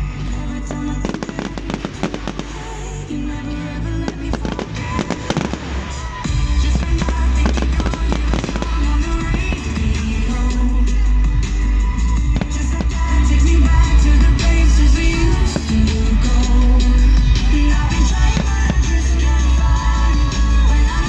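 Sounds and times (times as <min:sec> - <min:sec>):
loud music with heavy bass: 0:00.0 - 0:21.0
fireworks bangs and crackles: 0:00.3 - 0:03.0, 0:04.0 - 0:10.5, 0:12.2 - 0:16.6, 0:17.4 - 0:21.0.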